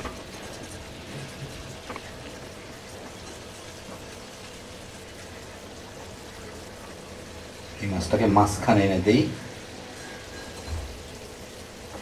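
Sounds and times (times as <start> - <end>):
greens simmering in a pan: 0.0 - 12.0.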